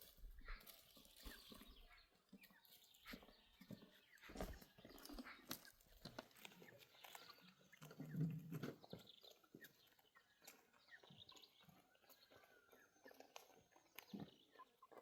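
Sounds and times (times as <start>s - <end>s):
animal clicks and chirps: 0.4s - 15.0s.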